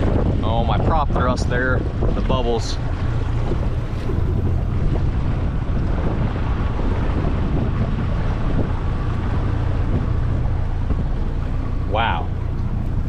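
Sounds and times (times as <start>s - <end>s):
boat motor running: 0.0s - 13.0s
water washing against hull: 0.0s - 13.0s
wind rumble on microphone: 0.0s - 13.0s.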